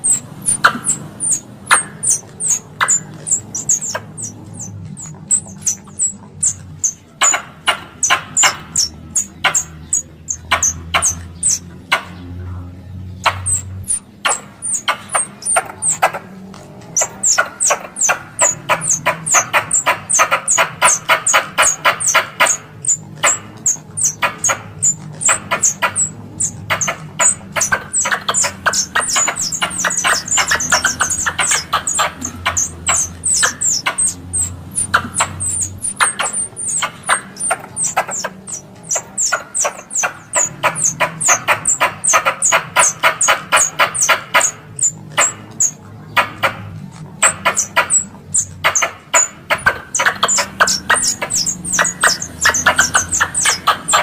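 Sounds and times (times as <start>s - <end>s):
squirrel chirps: 0.0s - 12.4s, 13.0s - 54.0s.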